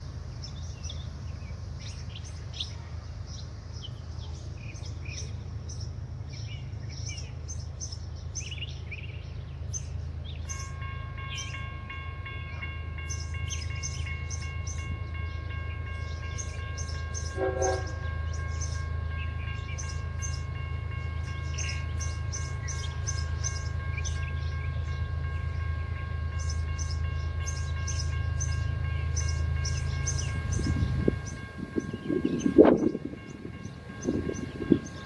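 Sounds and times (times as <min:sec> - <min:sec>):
diesel locomotive rumble: 0:00.0 - 0:35.0
birds chirping: 0:00.3 - 0:35.0.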